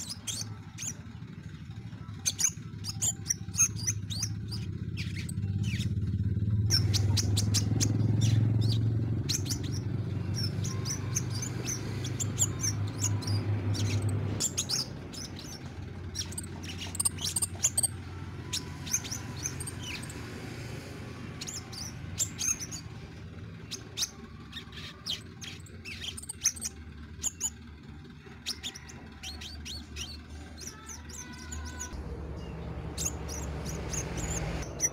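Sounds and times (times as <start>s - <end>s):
bird chirping and twittering: 0.0s - 34.9s.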